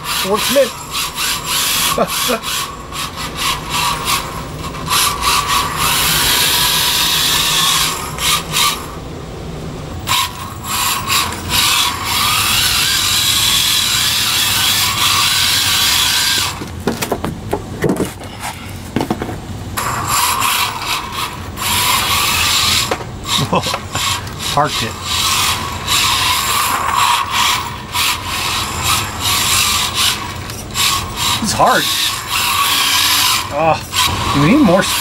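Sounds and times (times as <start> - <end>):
tyres sliding on concrete: 0.0 - 8.9, 10.0 - 35.0
small electric motor whirring: 0.0 - 9.1, 10.0 - 16.7, 19.8 - 35.0.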